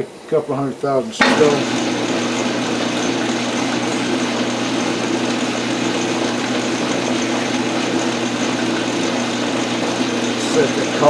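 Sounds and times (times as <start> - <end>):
metal lathe running: 1.2 - 11.0.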